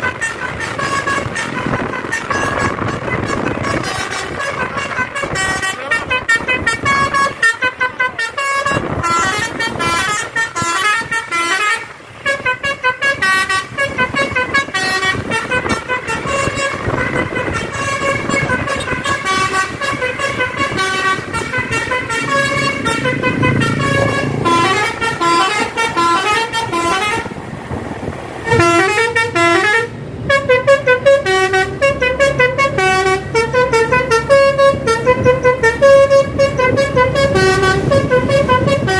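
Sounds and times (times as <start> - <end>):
multi-note air horn melody: 0.0 - 27.4, 28.4 - 38.9
bus engine drone: 0.0 - 38.9.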